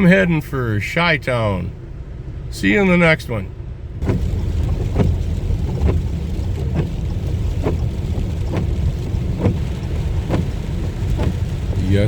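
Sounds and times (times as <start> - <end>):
car driving rumble: 0.0 - 12.0
windshield wipers swishing: 0.0 - 12.0.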